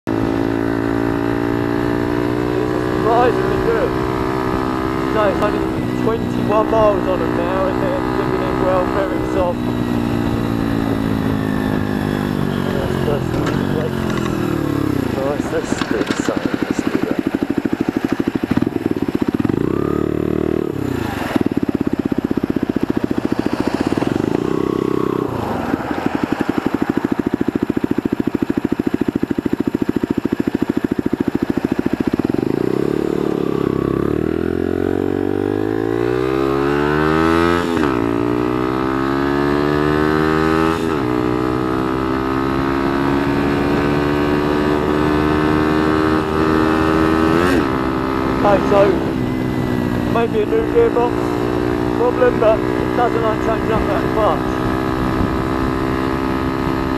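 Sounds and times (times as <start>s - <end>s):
motorcycle engine revving and idling: 0.1s - 56.9s.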